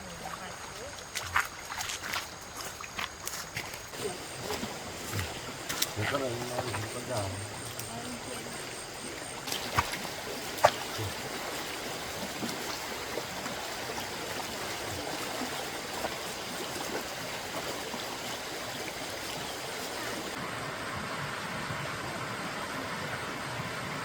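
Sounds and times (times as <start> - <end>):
stream flowing over rocks: 0.0 - 24.0.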